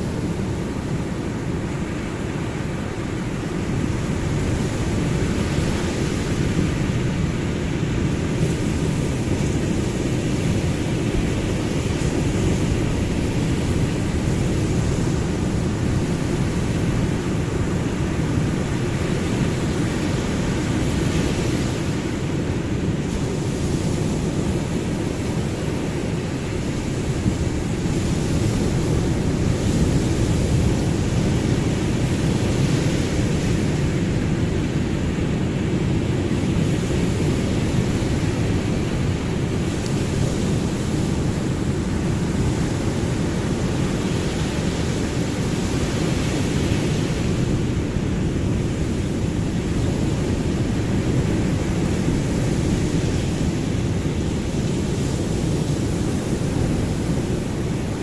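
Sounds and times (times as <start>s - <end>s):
hissing surf wash: 0.0s - 58.0s
ocean waves rumbling: 0.0s - 58.0s.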